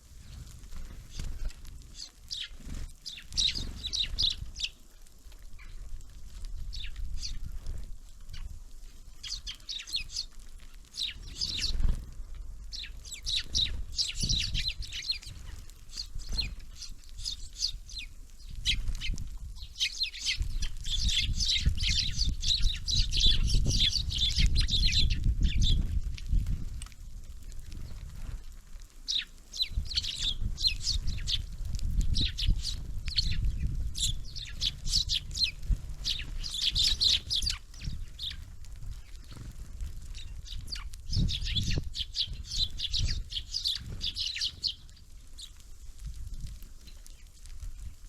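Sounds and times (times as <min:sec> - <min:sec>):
small songbirds chirping: 0:00.0 - 0:48.0.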